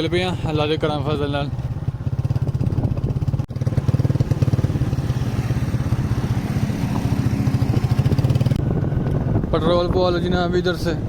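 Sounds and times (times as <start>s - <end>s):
motorcycle engine running: 0.0s - 11.0s
road and wind hiss: 0.0s - 11.0s.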